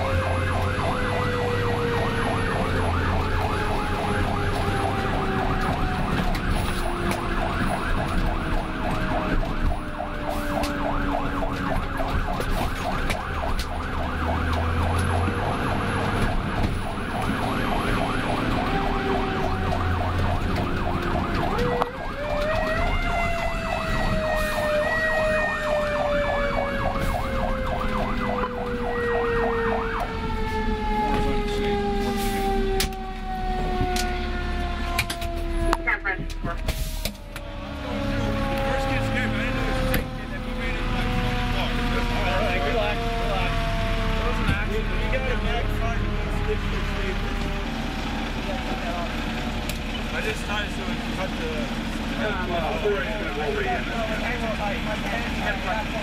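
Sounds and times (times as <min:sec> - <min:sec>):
fast yelp siren: 0:00.0 - 0:36.7, 0:37.3 - 0:47.6
truck engine rumbling: 0:00.0 - 0:56.0
wailing siren: 0:00.0 - 0:56.0.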